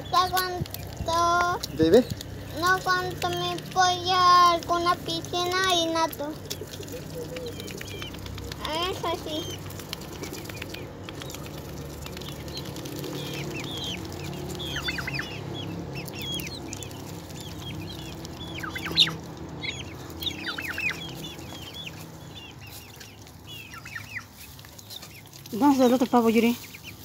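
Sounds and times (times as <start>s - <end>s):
poultry peeping and clucking: 0.0s - 27.0s.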